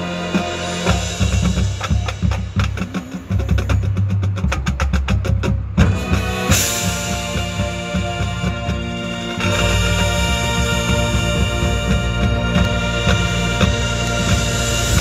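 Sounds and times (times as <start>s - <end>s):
marching band percussion strikes: 0.0s - 15.0s.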